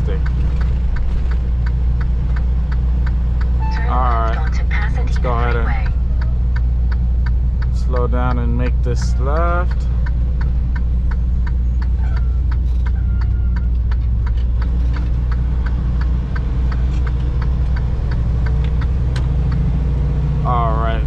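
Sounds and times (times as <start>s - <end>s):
truck diesel engine rumbling: 0.0s - 21.0s
turn signal clicking: 0.1s - 20.4s.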